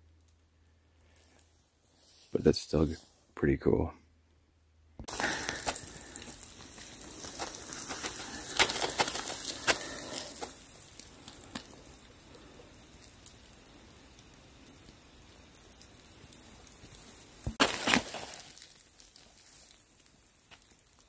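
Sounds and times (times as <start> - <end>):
rustling in frozen dry leaves: 1.0 - 3.3, 5.1 - 21.0.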